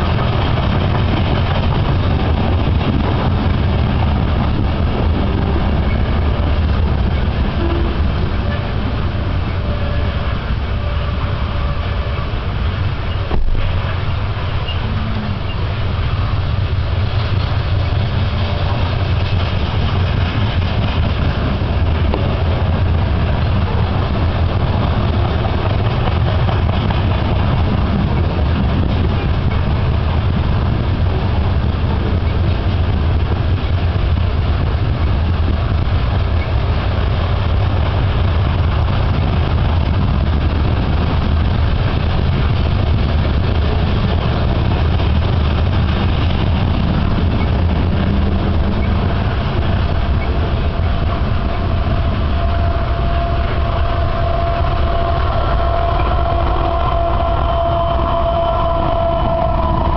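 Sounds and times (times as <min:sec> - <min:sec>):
multi-tone whine: 0:00.0 - 0:59.9
train wheels rumbling on rail: 0:00.0 - 0:59.9.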